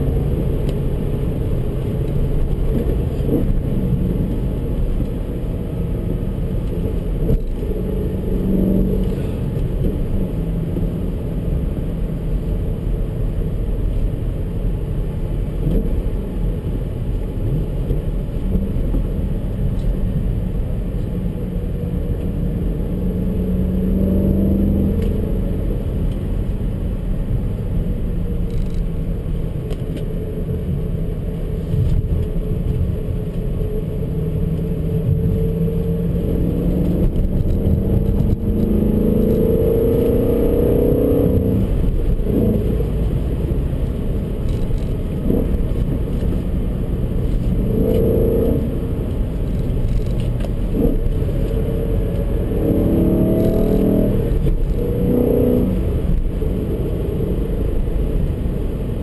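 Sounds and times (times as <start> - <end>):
car engine accelerating: 0.0 - 59.0
tyre and road rumble: 0.0 - 59.0.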